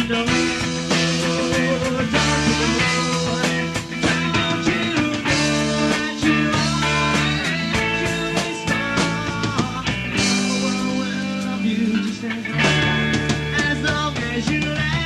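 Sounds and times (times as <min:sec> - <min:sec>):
bass notes: 0:00.0 - 0:15.0
drums: 0:00.0 - 0:15.0
electric guitar: 0:00.0 - 0:15.0.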